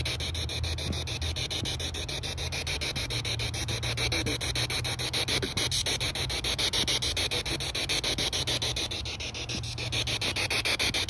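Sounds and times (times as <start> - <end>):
pulsing radio static: 0.0 - 11.0.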